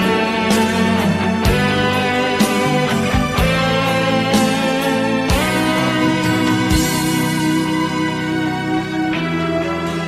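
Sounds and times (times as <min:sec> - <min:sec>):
karaoke backing music with guitar: 0:00.0 - 0:10.0.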